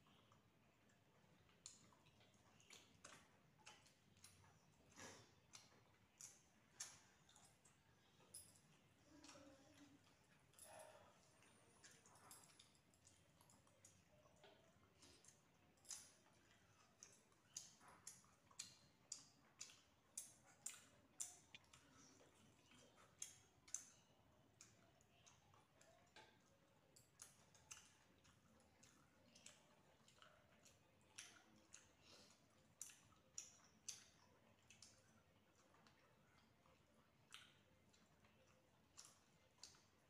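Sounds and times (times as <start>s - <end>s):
wet chewing smacks: 0.0s - 40.0s.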